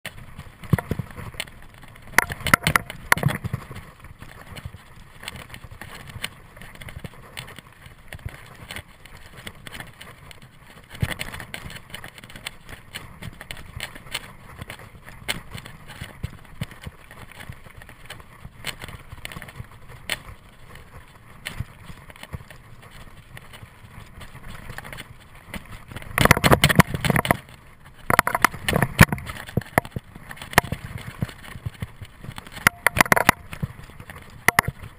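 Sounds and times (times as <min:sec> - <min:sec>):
mountain bike rattling: 0:00.1 - 0:34.9.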